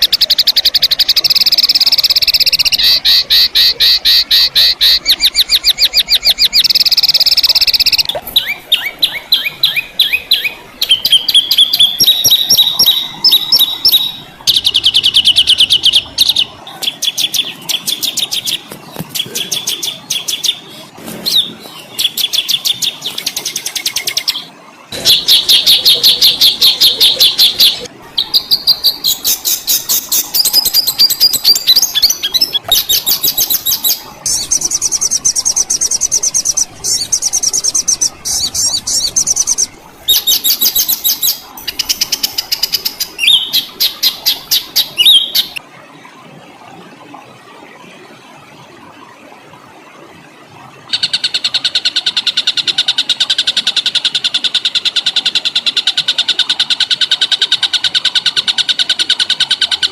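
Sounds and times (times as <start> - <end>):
songbird harsh notes and trills: 0.0 - 45.6, 50.8 - 59.9.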